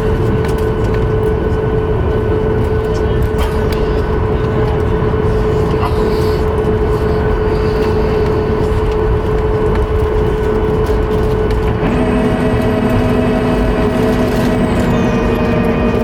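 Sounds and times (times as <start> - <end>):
aircraft cabin engine rumble: 0.0 - 16.0
low and high hums: 0.0 - 16.0.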